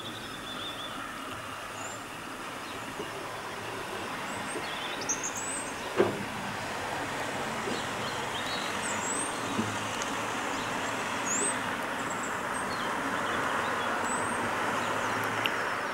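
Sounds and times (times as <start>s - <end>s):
birds chirping: 0.0s - 6.2s, 7.5s - 15.9s
distant train rolling on track: 0.0s - 14.8s.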